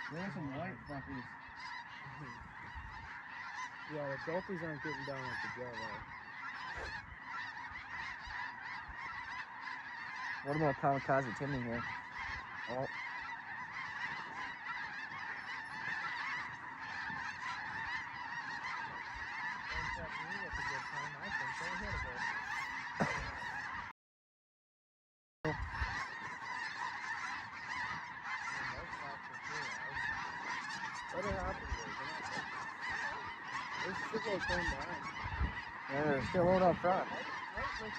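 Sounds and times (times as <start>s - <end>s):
geese honking: 0.0s - 23.9s, 25.5s - 37.9s.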